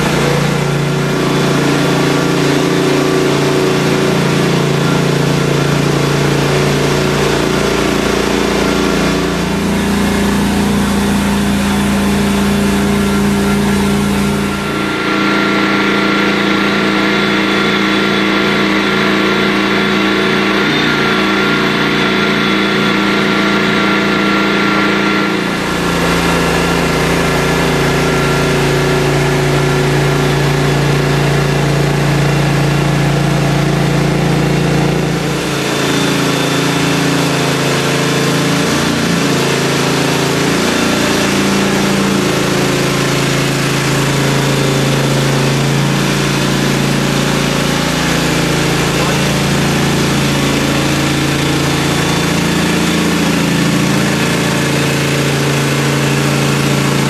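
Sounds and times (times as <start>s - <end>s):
loader engine running: 0.0s - 57.0s.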